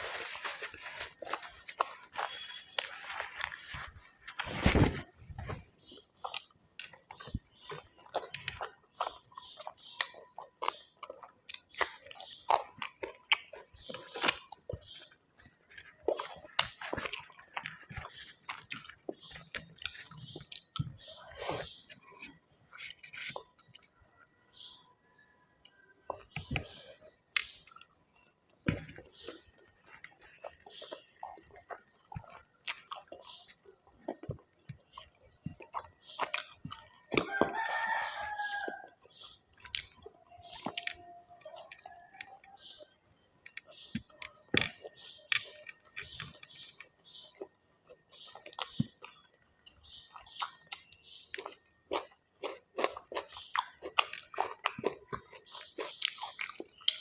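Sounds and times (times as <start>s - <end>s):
chewing with wet mouth smacks: 5.4s - 24.0s, 25.6s - 57.0s.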